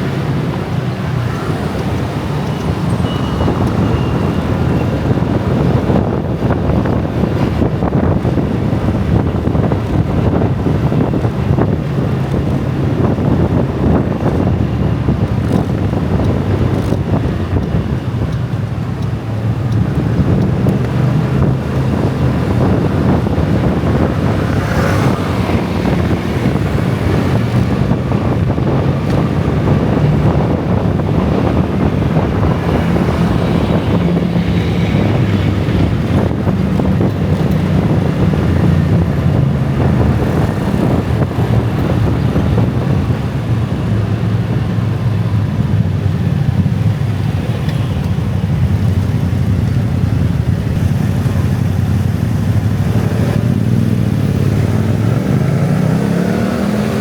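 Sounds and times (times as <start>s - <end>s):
engine accelerating: 0.0s - 57.0s
scooter and car traffic: 0.0s - 57.0s.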